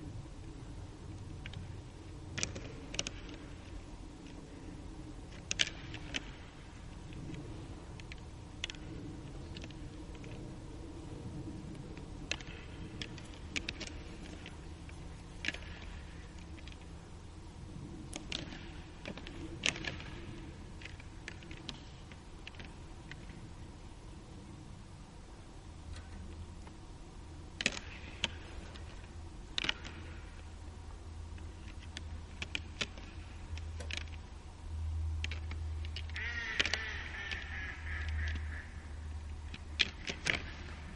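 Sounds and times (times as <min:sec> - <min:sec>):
low background noise: 0:00.0 - 0:40.9.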